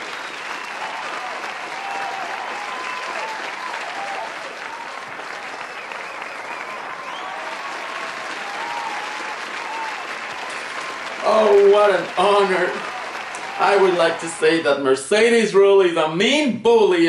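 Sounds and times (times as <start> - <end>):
large audience applauding: 0.0 - 15.2.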